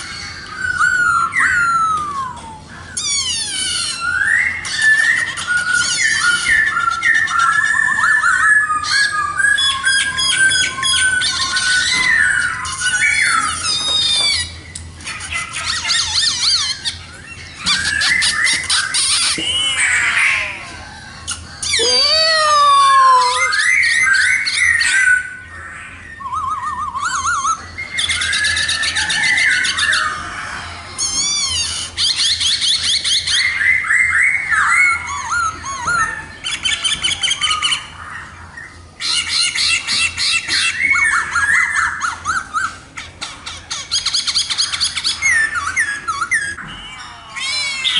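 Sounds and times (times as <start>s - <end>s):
bird singing varied song: 0.0s - 47.9s.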